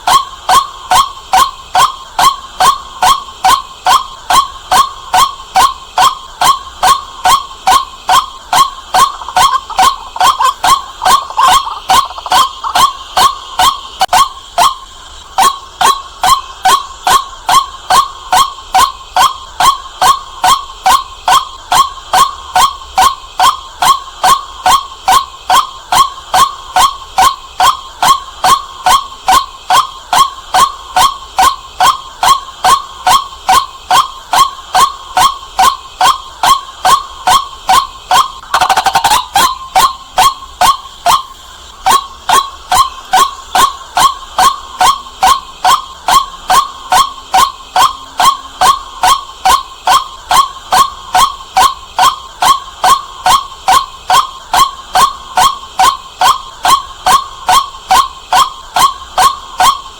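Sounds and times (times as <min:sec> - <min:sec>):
bird calling short kwak notes: 0:00.0 - 0:59.9
rough burst of noise: 0:00.0 - 0:59.9.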